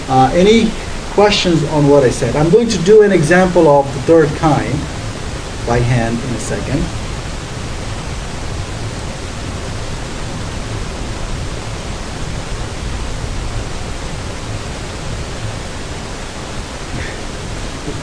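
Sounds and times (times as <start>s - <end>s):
low rumble: 0.0s - 18.0s
steady hiss: 0.0s - 18.0s.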